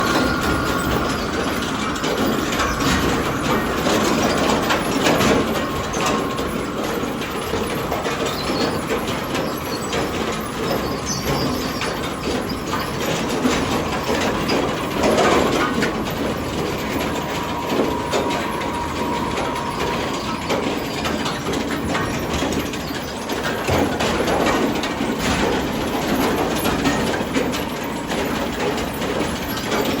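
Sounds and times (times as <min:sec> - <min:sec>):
log conveyor mechanical rumble: 0:00.0 - 0:30.0.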